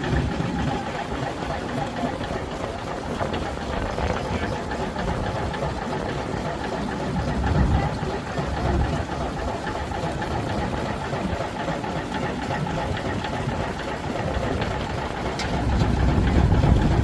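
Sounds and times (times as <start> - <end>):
steam engines clattering: 0.0 - 17.0.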